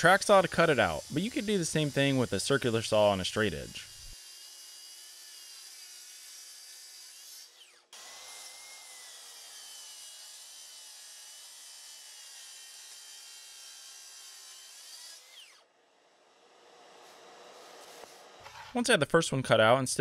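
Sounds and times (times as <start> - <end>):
track saw cutting plywood: 0.0 - 18.8.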